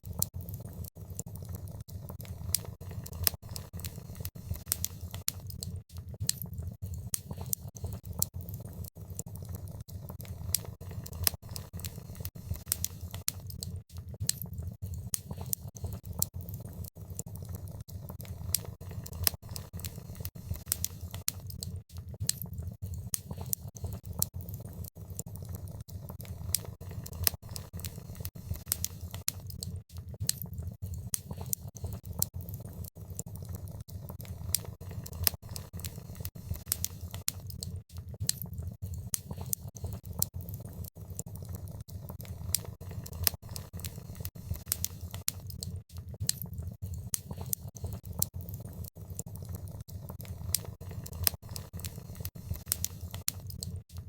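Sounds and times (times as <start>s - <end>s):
fire crackling: 0.0s - 54.0s
low fire rumble: 0.0s - 54.0s.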